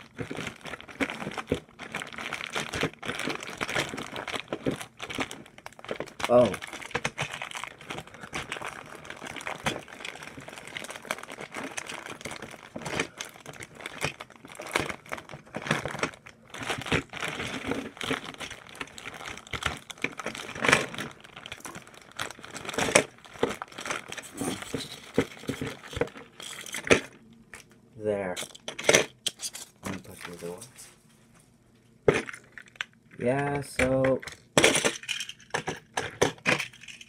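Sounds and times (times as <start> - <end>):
plastic packaging crinkling: 0.0 - 27.8, 28.4 - 30.9, 32.1 - 33.2, 34.2 - 37.0.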